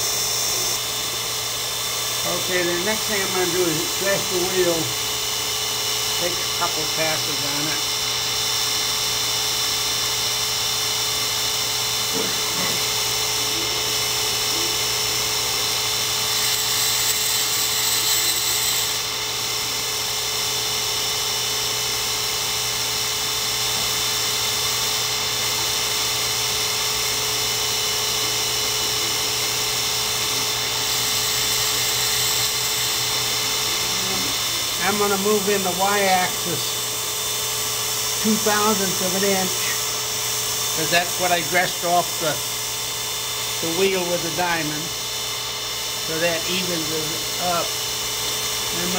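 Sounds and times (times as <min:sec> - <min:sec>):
grinding spindle whine: 0:00.0 - 0:48.9.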